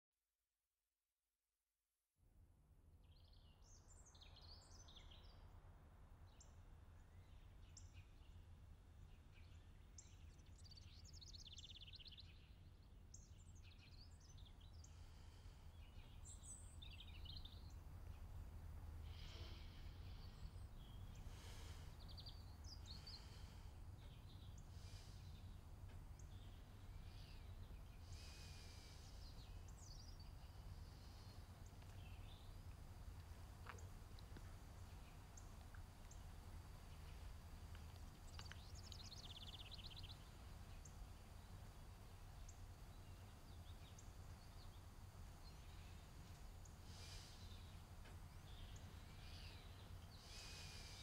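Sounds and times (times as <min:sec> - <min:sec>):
faint birds chirping: 0:03.0 - 0:51.0
low background rumble: 0:03.2 - 0:51.0.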